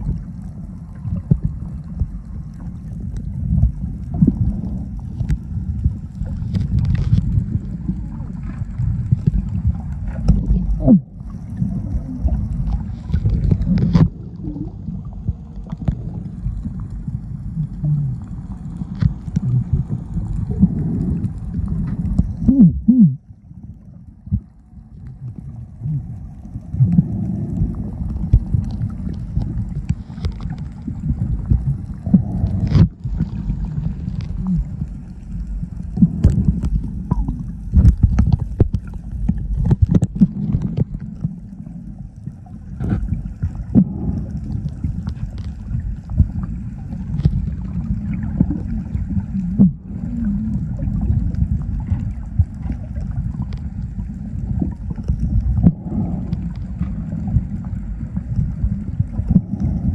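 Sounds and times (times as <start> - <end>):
underwater knocks and gurgles: 0.0 - 59.9
underwater rumble and sloshing: 0.0 - 59.9.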